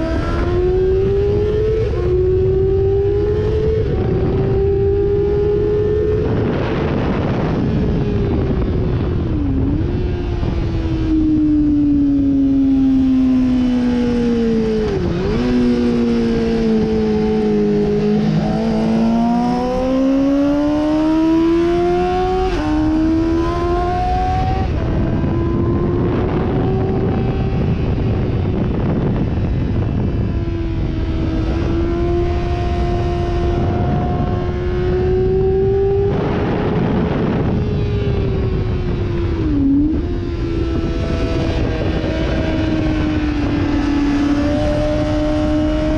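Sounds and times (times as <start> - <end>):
sportbike engine at high revs: 0.0 - 45.9
wind and road noise: 0.0 - 45.9.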